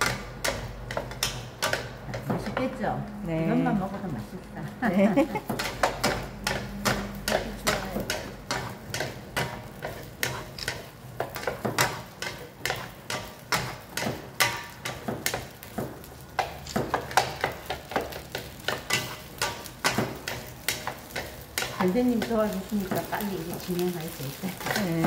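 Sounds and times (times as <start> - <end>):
wooden spatulas clacking on frying pan: 0.0 - 2.8, 5.3 - 25.0.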